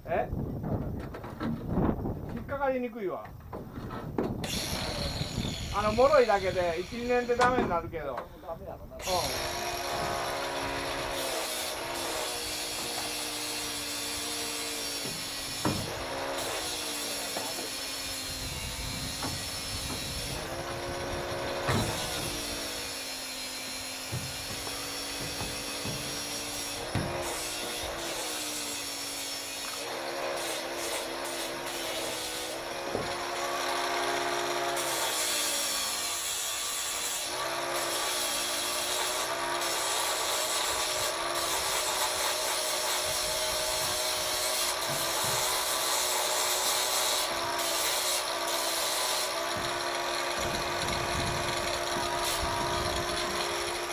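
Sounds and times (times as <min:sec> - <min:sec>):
power tool motor grinding: 0:04.4 - 0:07.6, 0:09.0 - 0:53.9.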